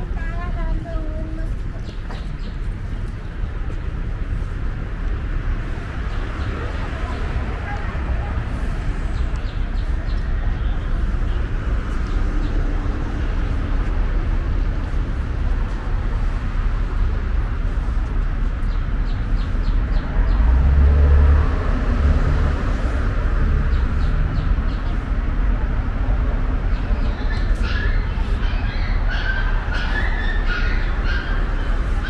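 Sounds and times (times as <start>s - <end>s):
city traffic rumble: 0.0s - 32.0s.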